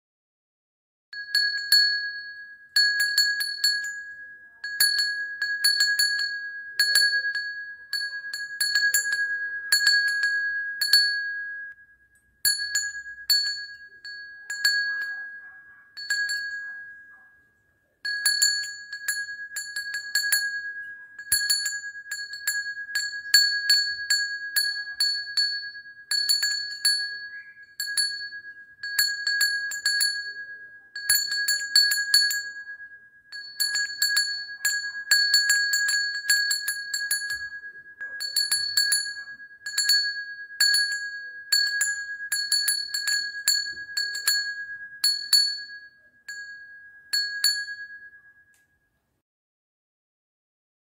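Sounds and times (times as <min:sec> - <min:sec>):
small metal bell ringing: 0:01.2 - 0:48.9.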